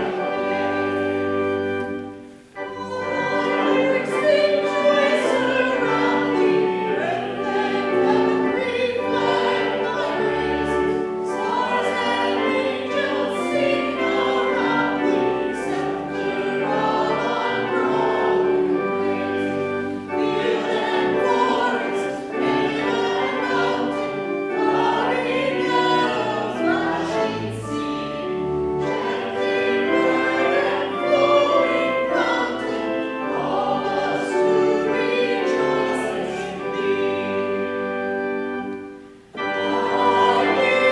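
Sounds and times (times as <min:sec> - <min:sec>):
choir singing: 0:00.0 - 0:40.9
instrumental accompaniment: 0:00.0 - 0:40.9.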